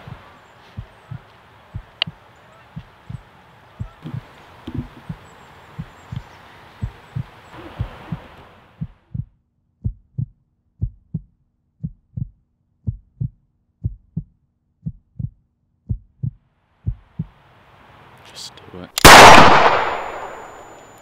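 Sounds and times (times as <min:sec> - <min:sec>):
heartbeat thumps: 0:00.0 - 0:05.2, 0:05.8 - 0:17.4
outdoor background noise: 0:00.0 - 0:21.0.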